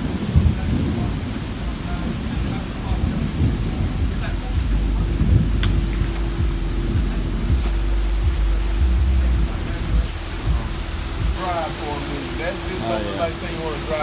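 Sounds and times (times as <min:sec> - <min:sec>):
heavy rain downpour: 0:00.0 - 0:14.0
steady low hum: 0:00.0 - 0:14.0
thunder rumbling: 0:00.0 - 0:14.0.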